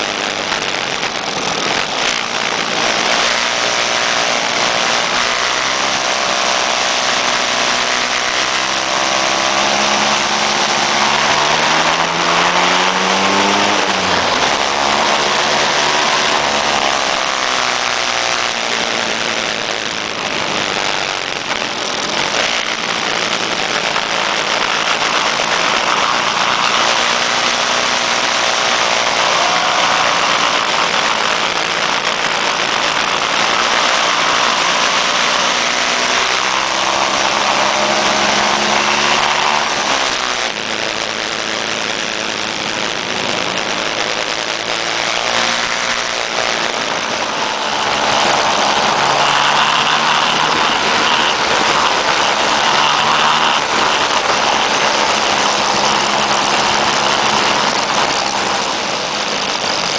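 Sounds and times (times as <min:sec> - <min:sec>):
motor scooter engines: 0:00.0 - 0:59.9
wind rush over microphone: 0:00.0 - 0:59.9.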